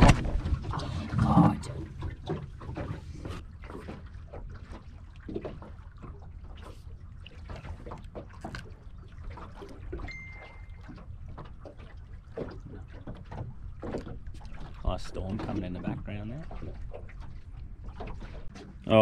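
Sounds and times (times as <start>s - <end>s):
water slapping against metal hull: 0.0s - 19.0s.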